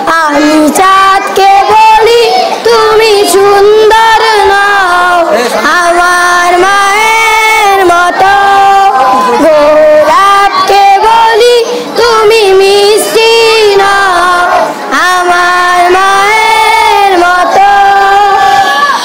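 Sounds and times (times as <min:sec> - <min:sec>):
boy singing unaccompanied: 0:00.0 - 0:19.0.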